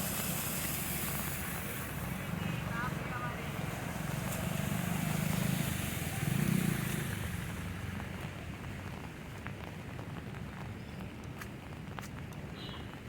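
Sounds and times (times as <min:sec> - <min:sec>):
steady hiss of rain: 0:00.0 - 0:13.0.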